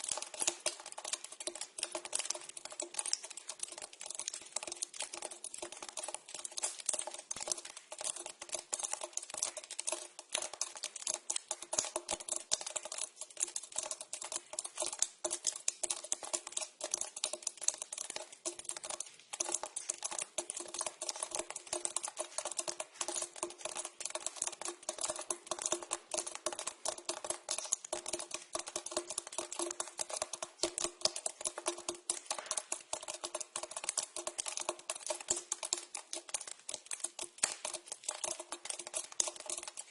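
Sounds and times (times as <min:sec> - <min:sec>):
water dripping into a pipe: 0:00.0 - 0:39.9.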